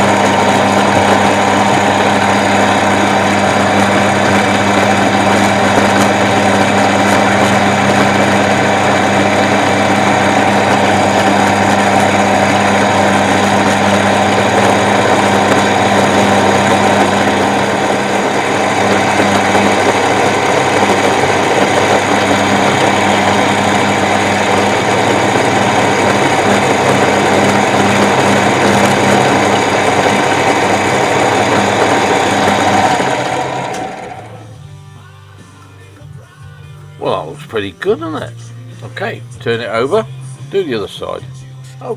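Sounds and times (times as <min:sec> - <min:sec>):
cutter milling workpiece: 0:00.0 - 0:34.4
milling machine motor hum: 0:00.0 - 0:34.6.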